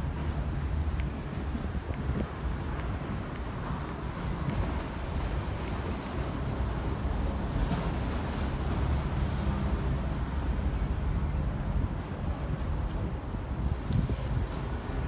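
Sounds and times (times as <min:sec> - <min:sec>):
wind buffeting microphone: 0:00.0 - 0:09.5, 0:11.1 - 0:15.0
faint city traffic hum: 0:00.0 - 0:15.0.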